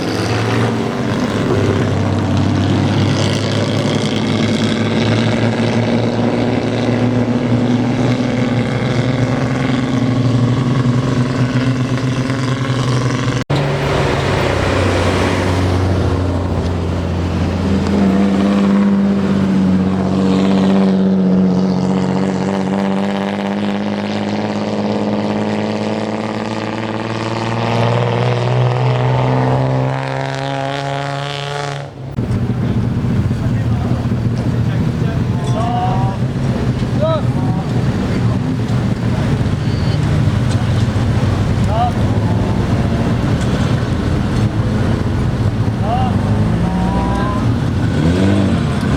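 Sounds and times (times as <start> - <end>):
loud car exhausts revving: 0.0 - 48.9.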